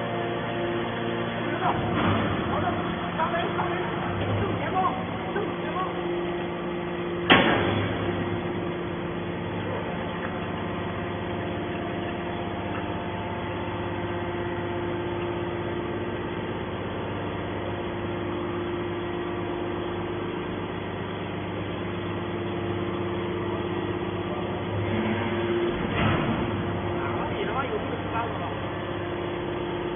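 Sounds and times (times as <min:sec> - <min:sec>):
hydraulic baler motor humming: 0:00.0 - 0:29.9.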